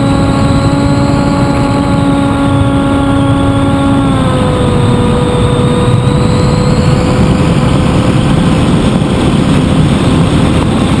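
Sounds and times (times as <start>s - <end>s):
electric motor and propeller whine: 0.0s - 11.0s
wind rush over microphone: 0.0s - 11.0s.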